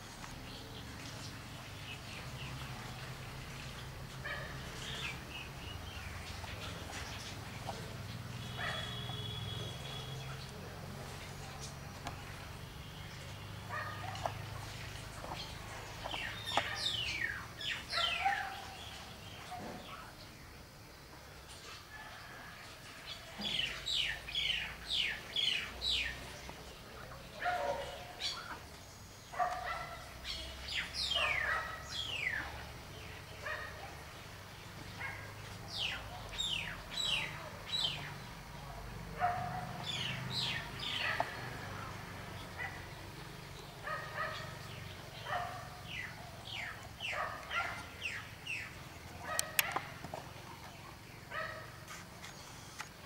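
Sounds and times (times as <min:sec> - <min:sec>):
birds calling: 0:00.0 - 0:20.1, 0:23.3 - 0:53.0.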